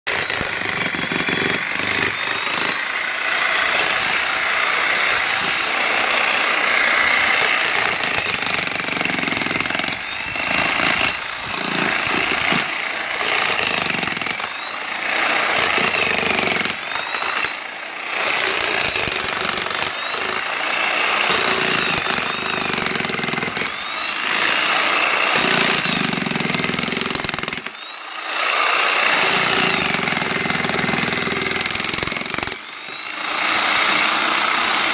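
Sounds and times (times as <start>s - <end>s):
jackhammer hammering: 0.1s - 34.9s.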